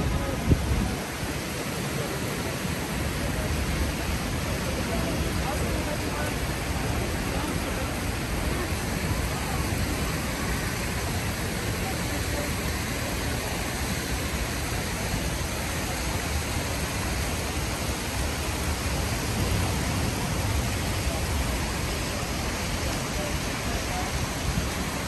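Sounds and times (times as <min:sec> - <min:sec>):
rain on a street: 0:00.0 - 0:25.0.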